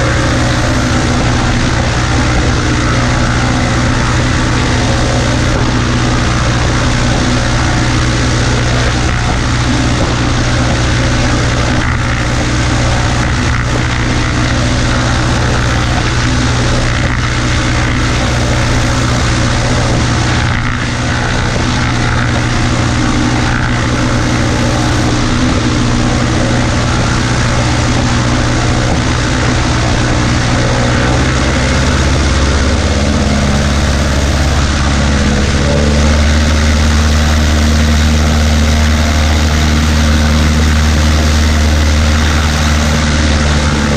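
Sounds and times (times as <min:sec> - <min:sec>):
propeller aircraft engine droning: 0:00.0 - 0:43.9.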